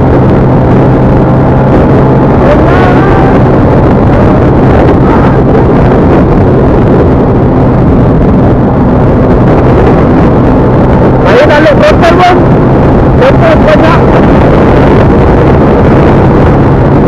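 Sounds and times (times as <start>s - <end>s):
engine hum: 0.0s - 17.0s
road and wind noise: 0.0s - 17.0s.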